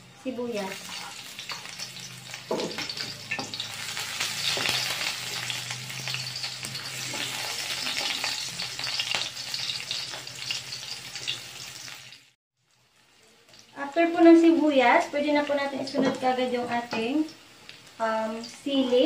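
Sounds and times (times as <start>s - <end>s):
garlic and onion sizzling in oil: 0.0s - 19.0s.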